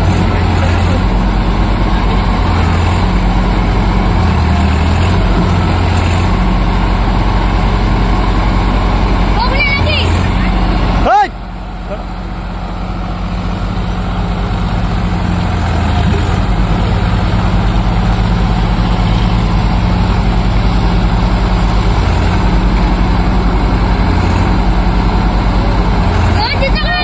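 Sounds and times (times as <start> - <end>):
tractor diesel engine straining: 0.0 - 27.0.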